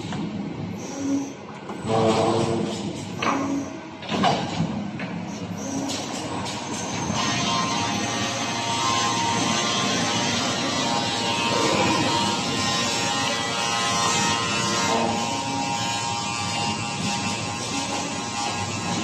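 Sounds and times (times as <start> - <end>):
machine motors and rollers whirring: 0.0 - 19.0.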